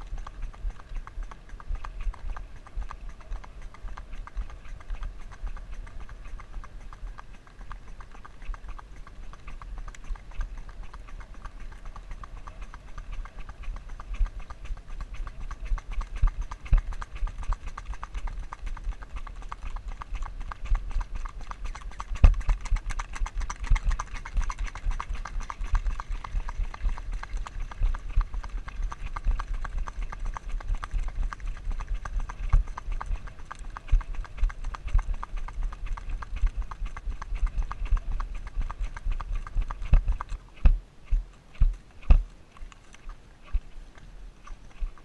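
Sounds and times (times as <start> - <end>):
hooves clip-clopping on pavement: 0.0 - 45.0
rapid clicking of loose camera: 0.0 - 45.0.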